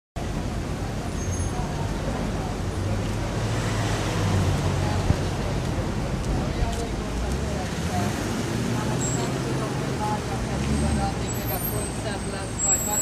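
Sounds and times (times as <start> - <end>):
traffic noise: 0.2 - 13.0
vehicle engine hum: 1.7 - 13.0.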